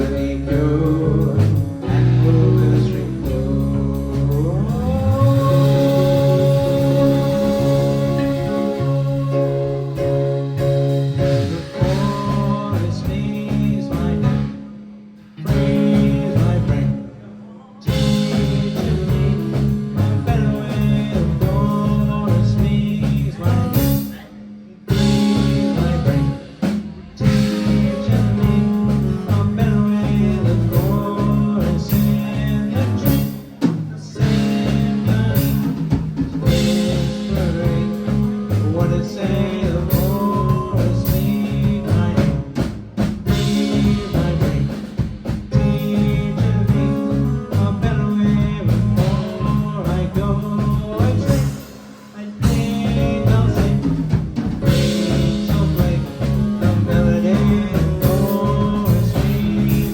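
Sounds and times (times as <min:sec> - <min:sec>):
live rock band playing: 0:00.0 - 0:17.2, 0:17.8 - 0:59.9.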